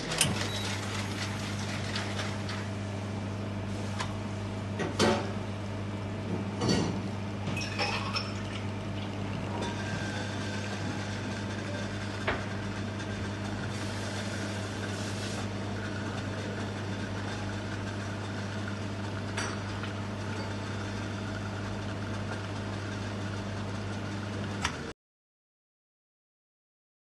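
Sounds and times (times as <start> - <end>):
espresso machine pump humming: 0.0 - 4.8, 5.9 - 24.9.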